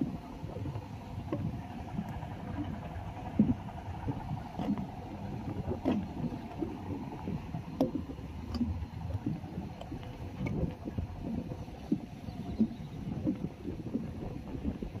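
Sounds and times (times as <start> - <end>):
small waves lapping around posts: 0.0 - 15.0
wind on microphone: 0.0 - 15.0.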